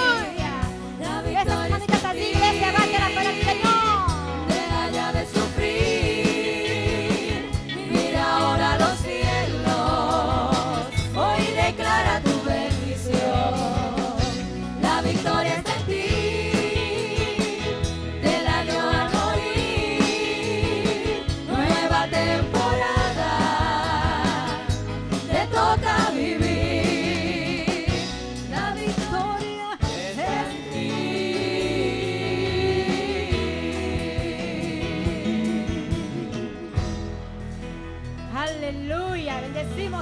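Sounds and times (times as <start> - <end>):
gospel singers with vibrato: 0.0 - 37.2
band with drums: 0.0 - 37.8.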